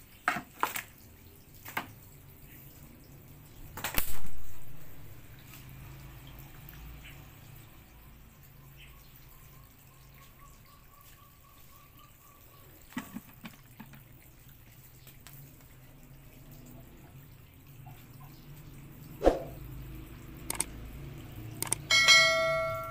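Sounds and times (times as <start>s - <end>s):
water trickling onto concrete: 0.0s - 22.9s.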